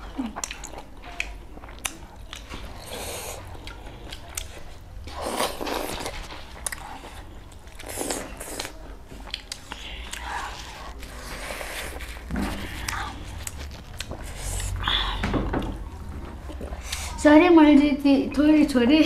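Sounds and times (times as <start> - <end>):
chewing and eating mouth sounds: 0.0 - 17.2.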